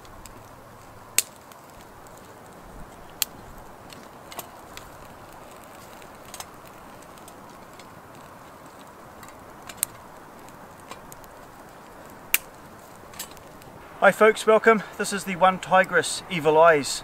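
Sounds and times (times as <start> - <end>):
steady hiss: 0.0 - 17.0
twig fire crackling: 0.0 - 17.0.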